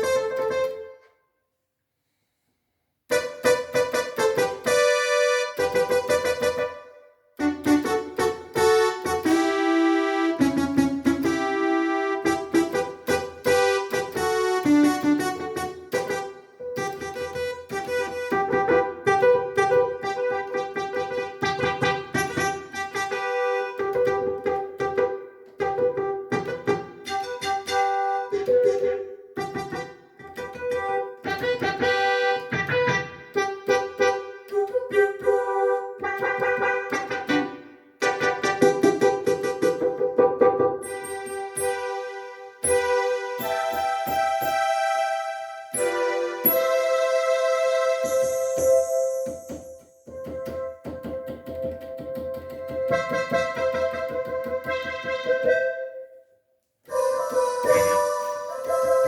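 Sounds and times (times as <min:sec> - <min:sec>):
keyboard playing piano melody: 0:00.0 - 0:01.1, 0:03.1 - 0:56.2, 0:56.9 - 0:59.0.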